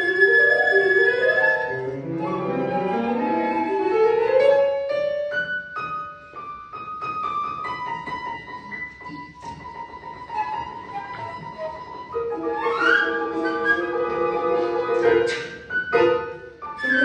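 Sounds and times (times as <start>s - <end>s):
flute: 0.0s - 4.9s, 8.0s - 17.0s
piano: 0.0s - 17.0s.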